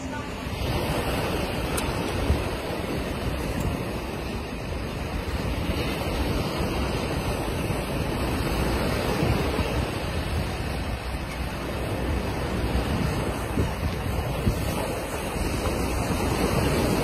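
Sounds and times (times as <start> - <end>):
surf breaking on beach: 0.0 - 17.0
wind noise on microphone: 0.0 - 17.0.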